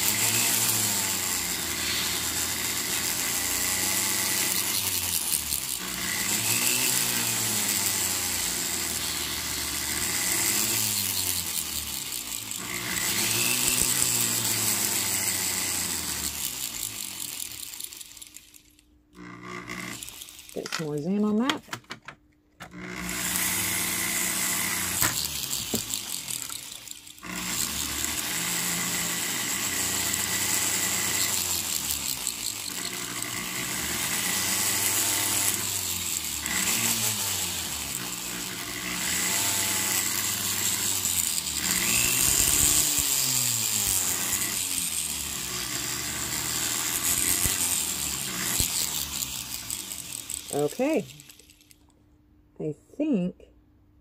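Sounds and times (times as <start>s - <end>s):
rotary tool buffing: 0.0s - 21.1s, 22.6s - 51.9s.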